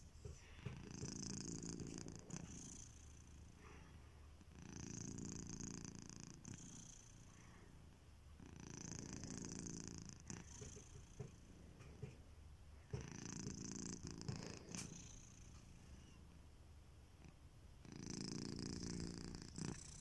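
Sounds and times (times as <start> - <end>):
cat snoring: 0.2 - 7.8, 8.4 - 12.2, 12.9 - 16.2, 17.2 - 20.0.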